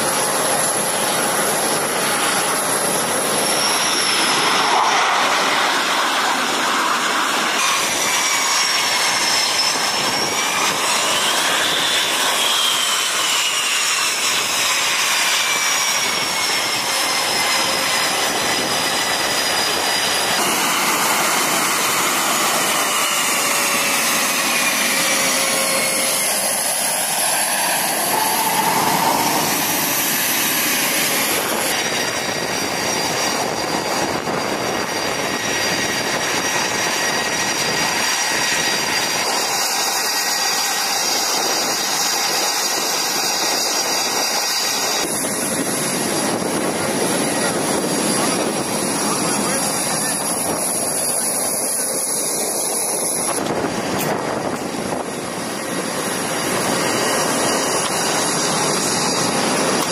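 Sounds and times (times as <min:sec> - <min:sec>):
jet engines roaring: 0:00.0 - 0:59.9
turbine whine: 0:00.0 - 0:59.9.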